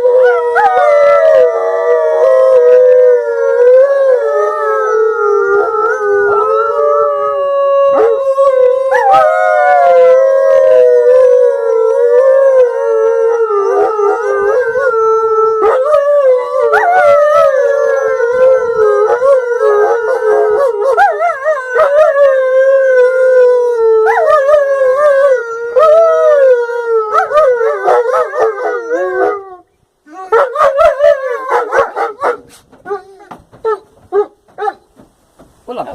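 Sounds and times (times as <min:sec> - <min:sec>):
wolves howling in chorus: 0:00.0 - 0:29.6.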